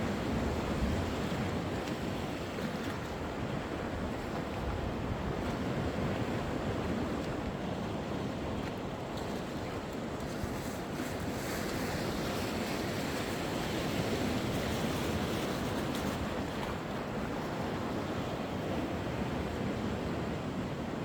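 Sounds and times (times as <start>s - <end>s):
sea waves washing ashore: 0.0s - 21.0s.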